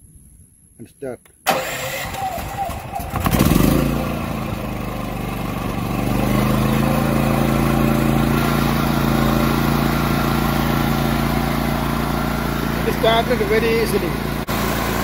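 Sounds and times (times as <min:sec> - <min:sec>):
generator engine running: 0:01.5 - 0:15.0.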